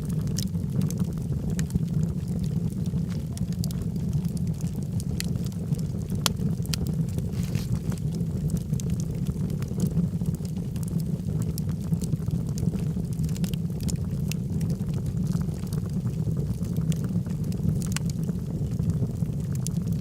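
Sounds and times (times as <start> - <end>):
fire crackling and popping: 0.0 - 20.0
flames rushing: 0.0 - 20.0.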